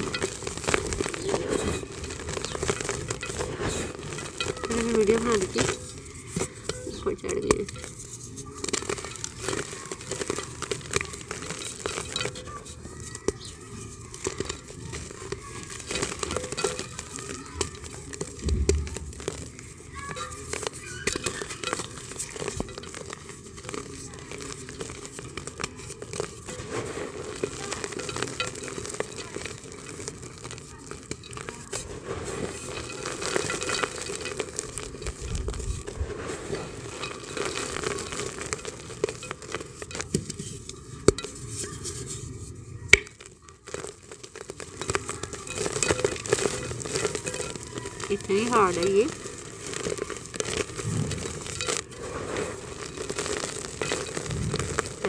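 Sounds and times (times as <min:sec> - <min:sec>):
dry clay crumbling and crackling: 0:00.0 - 0:55.0.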